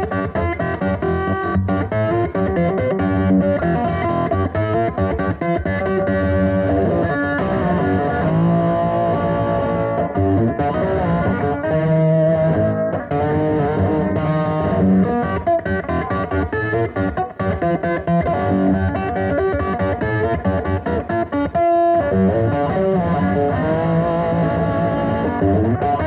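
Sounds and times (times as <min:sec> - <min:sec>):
overdriven slide electric guitar: 0:00.0 - 0:26.0.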